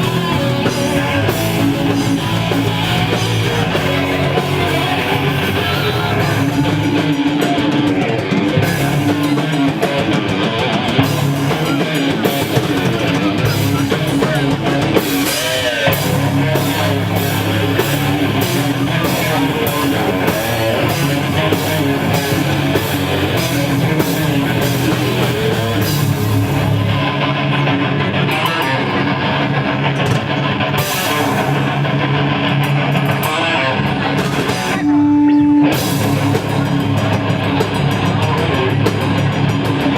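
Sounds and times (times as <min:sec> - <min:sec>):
distorted electric guitars: 0:00.0 - 0:39.9
drum kit playing: 0:00.0 - 0:39.9.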